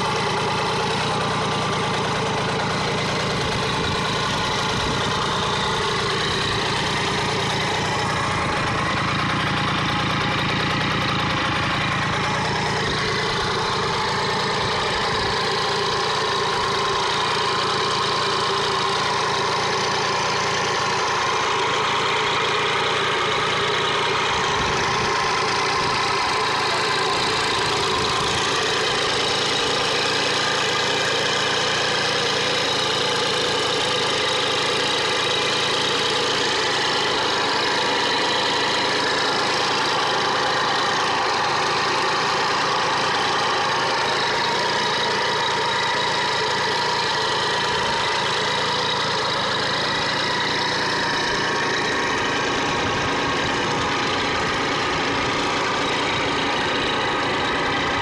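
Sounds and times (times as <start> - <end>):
moped engine idling: 0.0 - 58.0.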